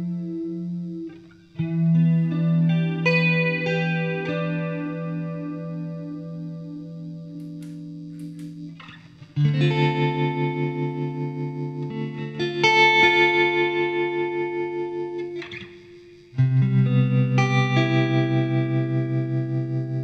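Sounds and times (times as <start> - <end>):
distorted electric guitar chords: 0.0 - 20.0.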